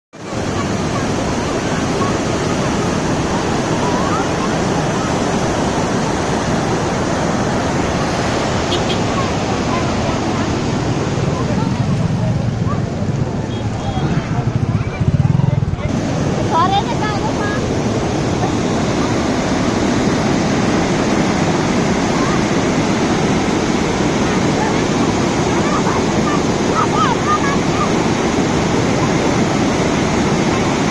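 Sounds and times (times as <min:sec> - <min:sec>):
water rushing: 0:00.2 - 0:30.9.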